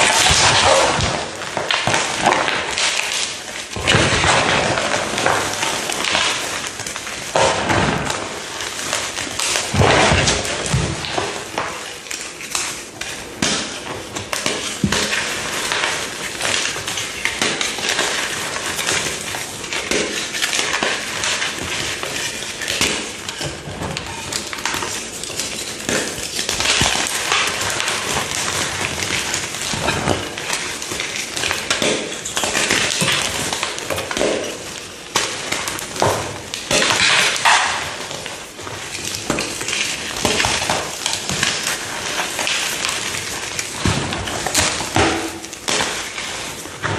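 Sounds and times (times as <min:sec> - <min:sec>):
brittle material crunching: 0:00.0 - 0:46.9.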